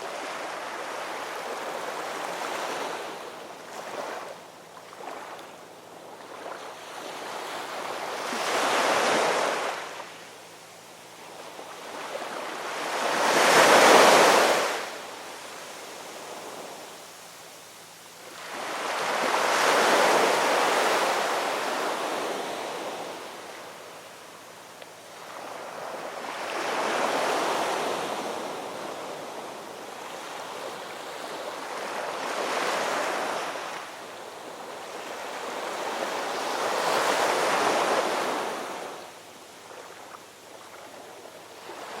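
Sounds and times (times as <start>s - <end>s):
ocean waves breaking on shore: 0.0s - 10.4s, 11.2s - 17.1s, 18.2s - 24.4s, 25.0s - 42.0s.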